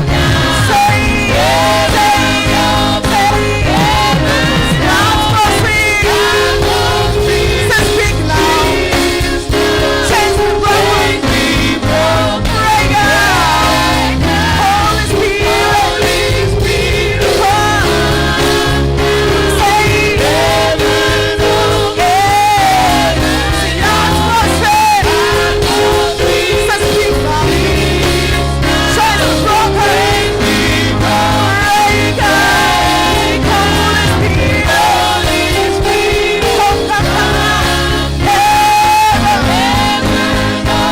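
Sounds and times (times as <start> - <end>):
bass line: 0.0 - 40.9
gospel choir singing: 0.0 - 40.9
steady drum beat: 0.0 - 40.9.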